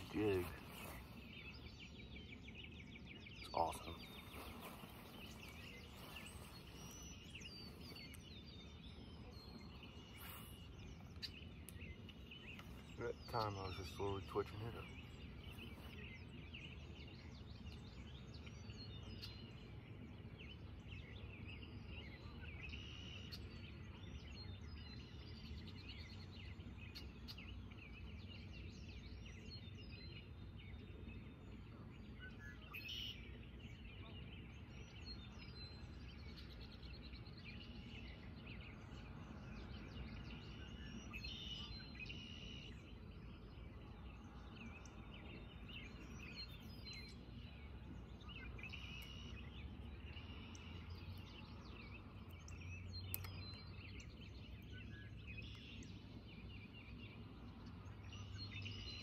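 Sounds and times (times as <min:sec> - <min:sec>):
bird chirps: 0:00.0 - 0:59.0.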